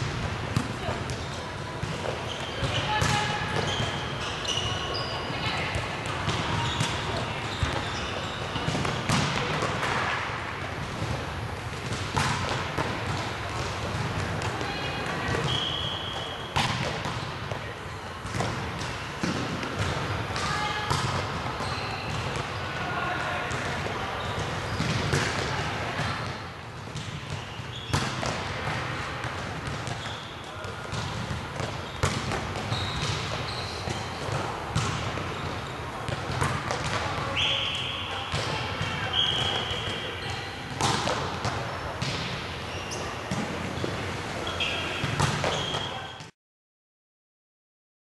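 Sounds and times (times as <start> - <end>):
volleyballs bouncing on gym floor: 0.0 - 46.3
sneakers squeaking on court: 0.6 - 10.1, 11.9 - 17.3, 18.2 - 22.8, 23.5 - 26.3, 27.0 - 46.3.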